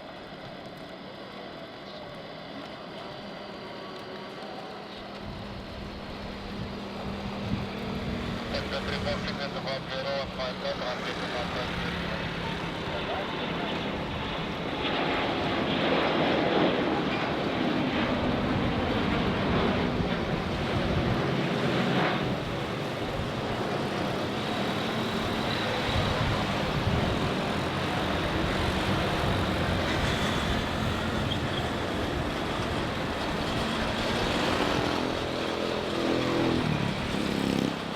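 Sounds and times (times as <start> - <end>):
jet engines at takeoff thrust: 0.0 - 37.9.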